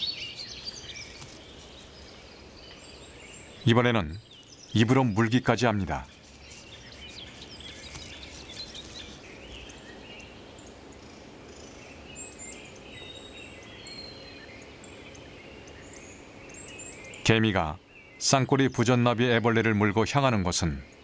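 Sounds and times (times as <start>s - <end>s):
bird chirps and twitters: 0.0s - 21.0s
steady low hiss: 0.0s - 21.0s.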